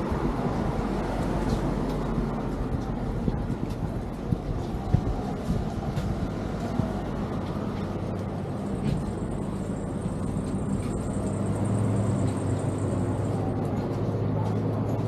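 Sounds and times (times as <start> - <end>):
road vehicles rumbling: 0.0 - 15.0.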